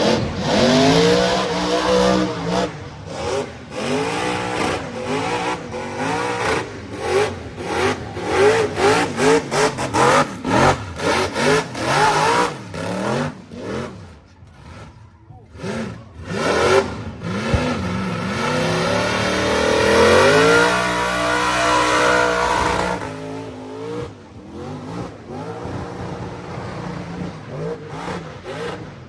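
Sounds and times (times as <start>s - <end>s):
car engine revving hard: 0.0s - 29.0s.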